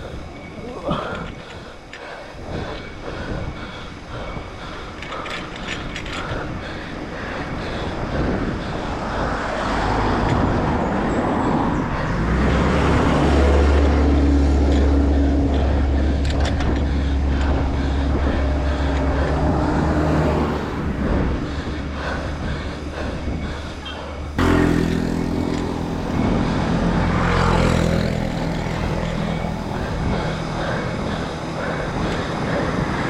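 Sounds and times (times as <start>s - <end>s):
road and wind noise: 0.0s - 33.0s
vehicle engine hum: 0.0s - 33.0s.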